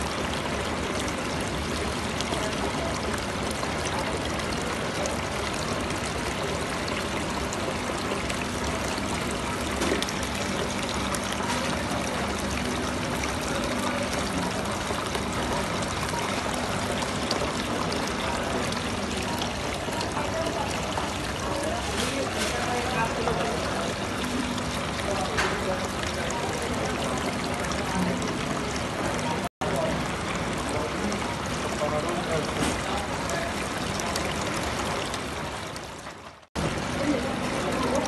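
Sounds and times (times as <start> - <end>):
fountain water splashing into basin: 0.0 - 38.0.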